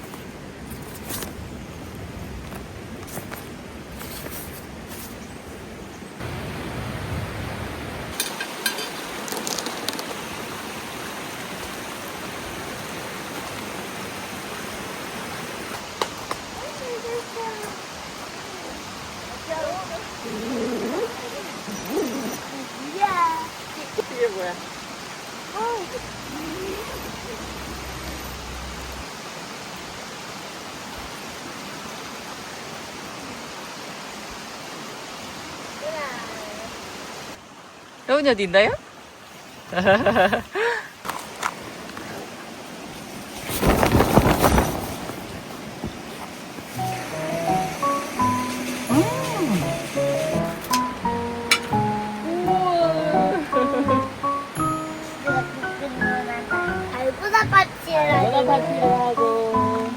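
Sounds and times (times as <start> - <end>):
stream flowing over rocks: 5.6 - 39.8, 40.5 - 59.9.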